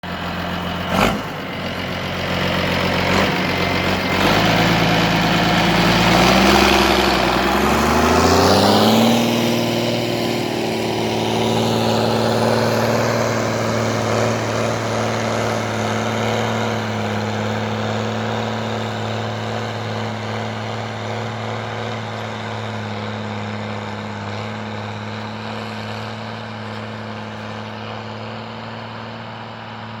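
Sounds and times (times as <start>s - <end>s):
tractor diesel engine revving: 0.0s - 30.0s.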